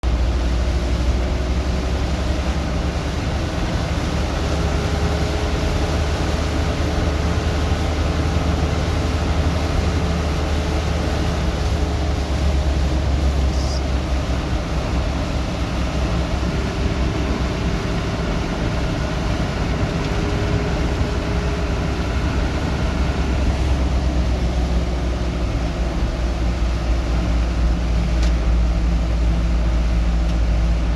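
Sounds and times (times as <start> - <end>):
deep low rumble: 0.0 - 30.9
heavy rain falling: 0.1 - 30.9.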